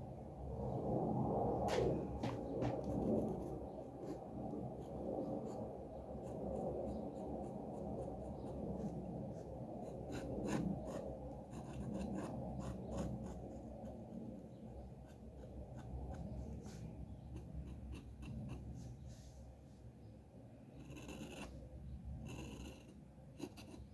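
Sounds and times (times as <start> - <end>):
low background hum: 0.0 - 23.9
pen scratching on paper: 2.2 - 18.9, 20.8 - 21.6, 22.2 - 23.9.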